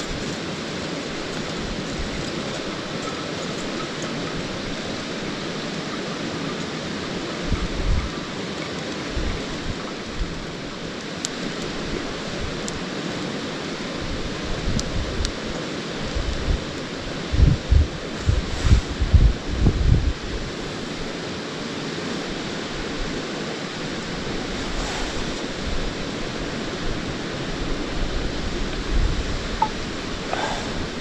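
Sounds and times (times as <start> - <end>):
stream rushing over rocks: 0.0 - 31.0
wood fire crackles: 0.0 - 31.0.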